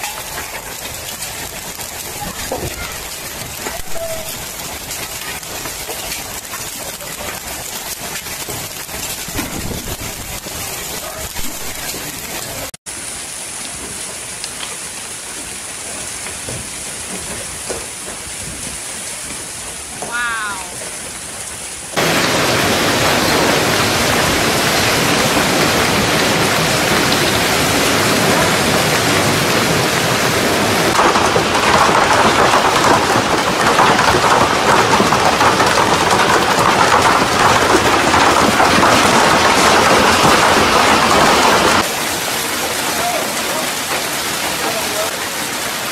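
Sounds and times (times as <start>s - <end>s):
heavy rain and hail falling: 0.0s - 45.9s
rain beating on a car: 0.0s - 45.9s.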